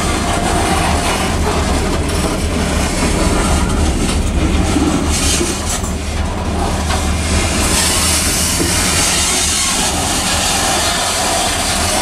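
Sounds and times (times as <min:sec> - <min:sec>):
train wheels rumbling on rails: 0:00.0 - 0:12.0
wheel clatter: 0:00.0 - 0:12.0.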